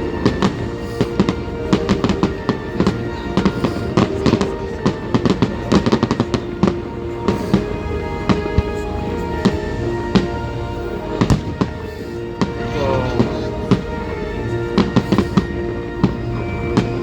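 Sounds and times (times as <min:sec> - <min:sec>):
music playing: 0:00.0 - 0:17.0.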